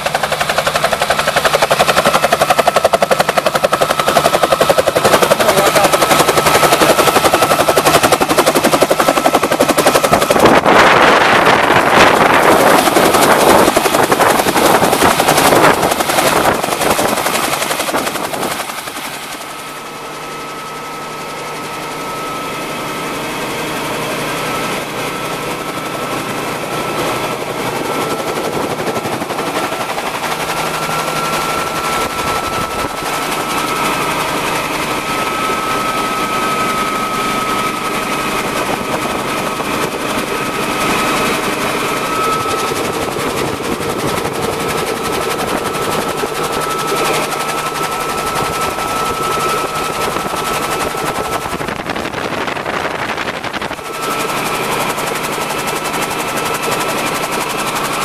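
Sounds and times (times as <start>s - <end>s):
helicopter engine and rotor chopping: 0.0s - 58.0s.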